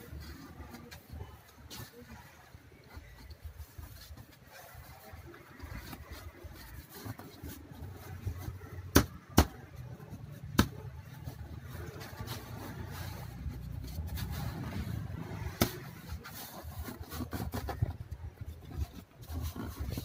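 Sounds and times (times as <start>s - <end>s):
seat cover rustling and rubbing: 0.0s - 20.0s.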